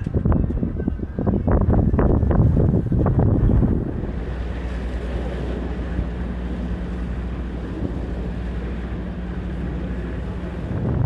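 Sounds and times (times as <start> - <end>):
low machine hum: 0.0 - 11.0
wind on microphone: 0.0 - 11.0.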